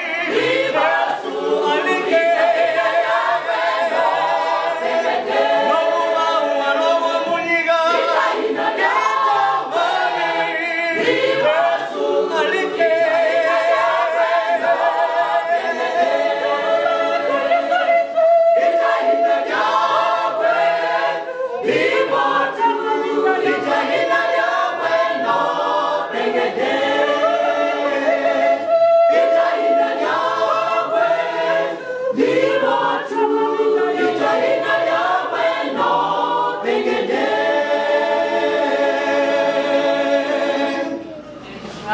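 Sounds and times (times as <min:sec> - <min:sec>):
choir singing a hymn: 0:00.0 - 0:41.9.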